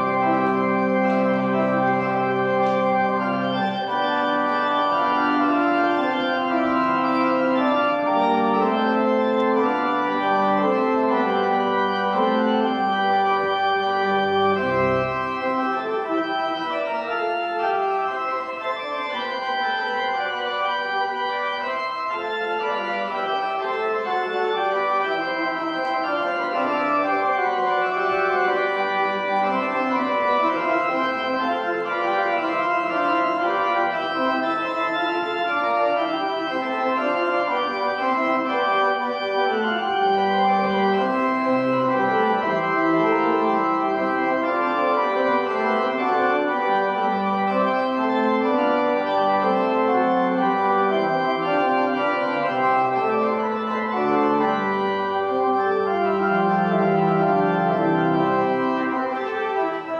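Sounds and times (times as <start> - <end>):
organ chords: 0.0 - 59.9.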